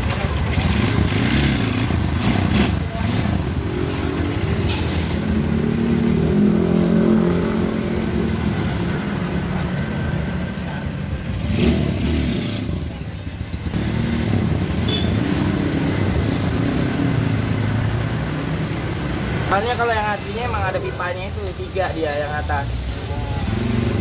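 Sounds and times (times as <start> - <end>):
street traffic passing: 0.0 - 24.0.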